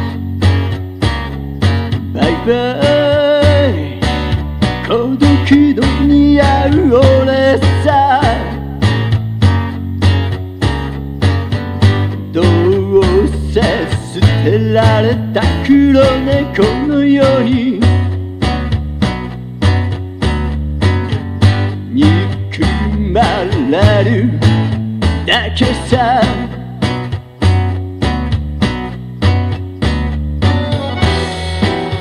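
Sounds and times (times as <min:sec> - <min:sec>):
pop song with drums bass guitar: 0:00.0 - 0:32.0.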